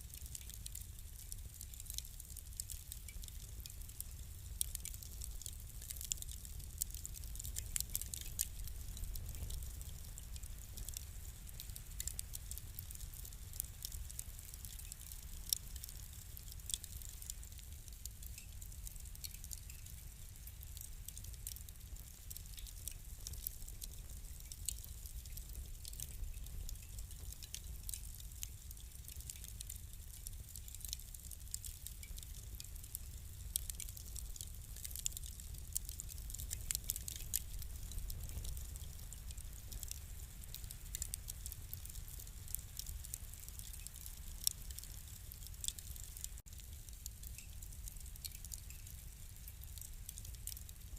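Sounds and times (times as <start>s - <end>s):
fire crackling and popping: 0.0s - 50.9s.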